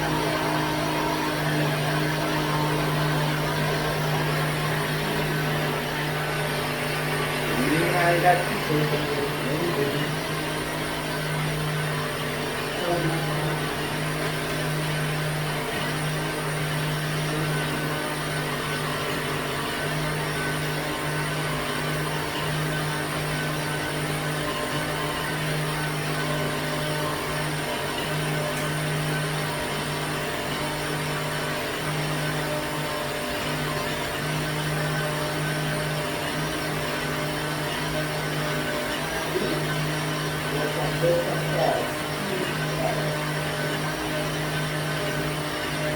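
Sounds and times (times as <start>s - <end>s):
electric blender humming: 0.0s - 45.9s.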